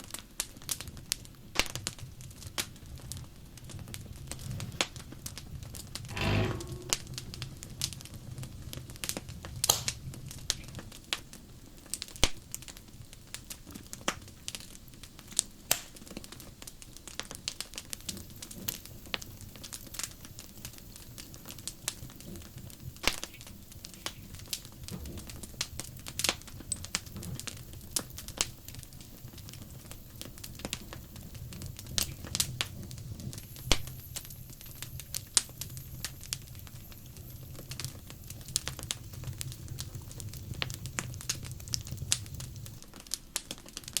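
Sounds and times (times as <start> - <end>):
wood fire crackling: 0.1 - 44.0.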